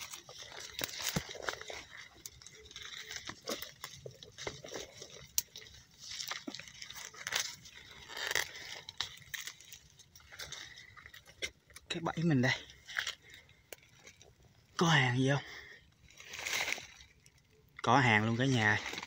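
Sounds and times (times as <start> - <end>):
dry leaves and twigs crunching: 0.0 - 19.0.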